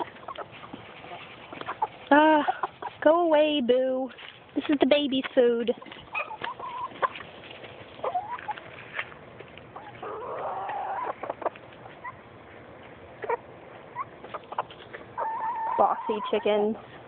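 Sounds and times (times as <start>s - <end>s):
chickens clucking: 0.0s - 3.1s, 4.1s - 17.0s.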